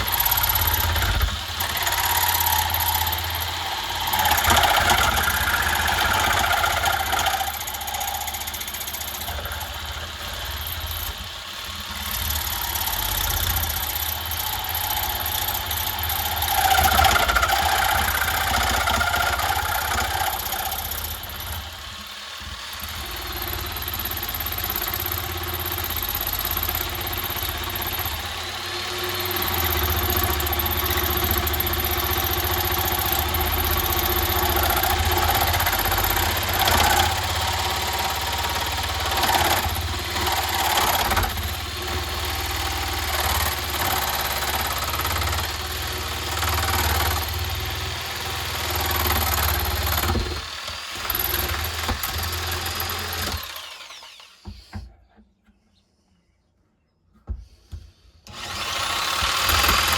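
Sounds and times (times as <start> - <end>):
electric grinder running: 0.0 - 54.7, 58.3 - 59.9.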